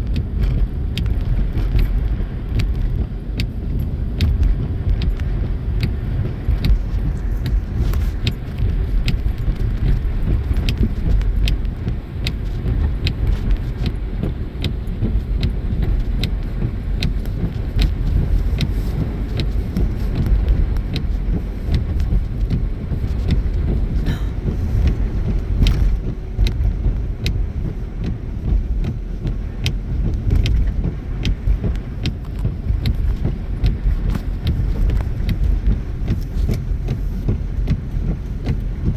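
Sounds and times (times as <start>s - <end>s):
light clicks and rattles: 0.0s - 38.9s
road rumble inside car: 0.0s - 38.9s.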